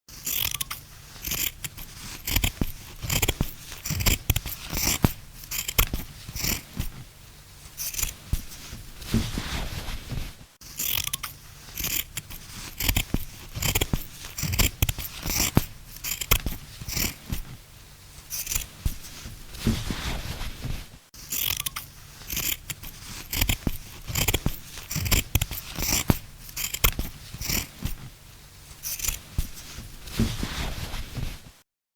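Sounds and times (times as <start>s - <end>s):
scissors cutting cloth: 0.1s - 7.0s, 7.7s - 9.7s, 10.6s - 17.6s, 18.2s - 20.4s, 21.2s - 28.1s, 28.7s - 31.1s.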